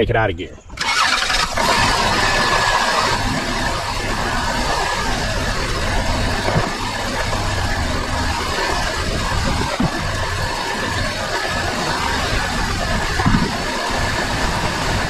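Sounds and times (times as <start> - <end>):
car engine idling: 0.7 - 15.0
dull engine clunks: 0.8 - 15.0.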